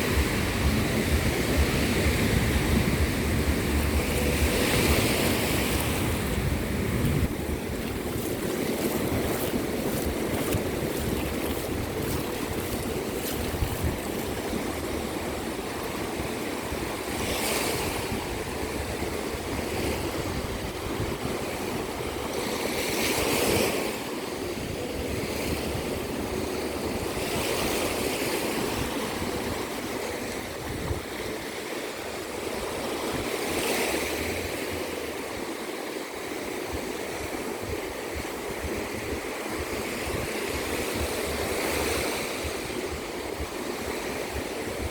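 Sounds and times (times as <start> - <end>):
surf washing on a beach: 0.0 - 44.9
waves breaking: 0.0 - 44.9.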